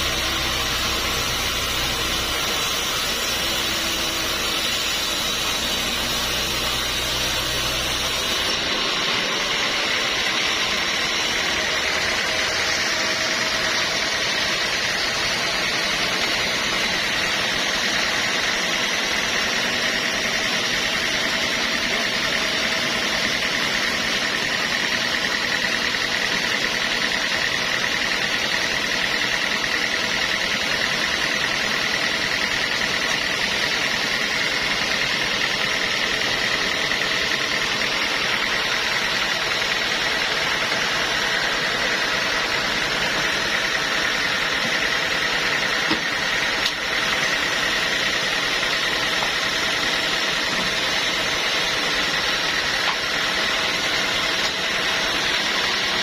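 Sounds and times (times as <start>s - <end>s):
saw whining: 0.0s - 56.0s.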